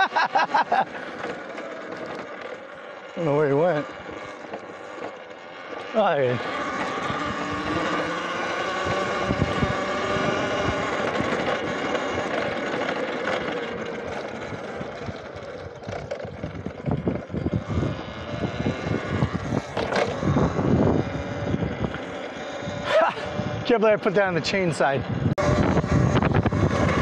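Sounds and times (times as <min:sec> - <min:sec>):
electric motor whine: 0:00.0 - 0:27.0.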